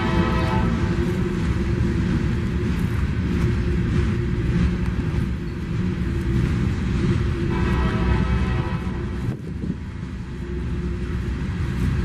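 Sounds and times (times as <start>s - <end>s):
hopper cars rumbling on rails: 0.0s - 12.0s.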